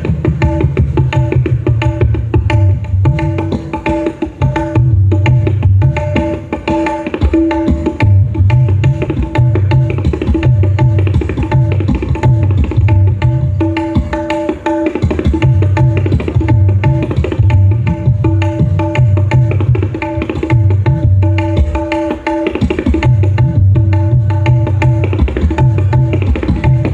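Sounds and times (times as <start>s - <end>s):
hand drums playing fast rhythm: 0.0s - 26.9s.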